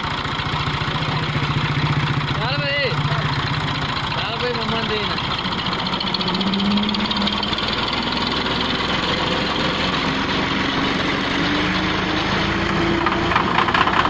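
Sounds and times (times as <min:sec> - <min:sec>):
engine turning over and firing: 0:00.0 - 0:14.0
tractor diesel engine under load: 0:00.0 - 0:14.0.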